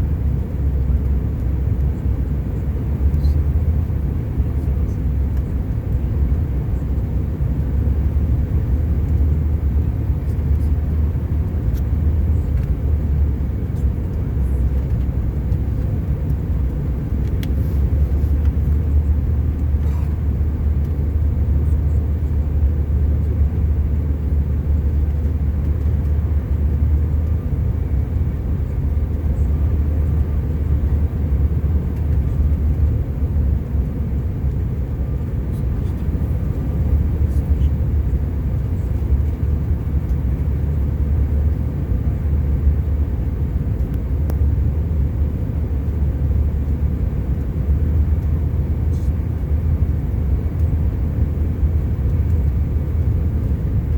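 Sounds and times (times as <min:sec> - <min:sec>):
jet cabin engine drone: 0:00.0 - 0:53.9.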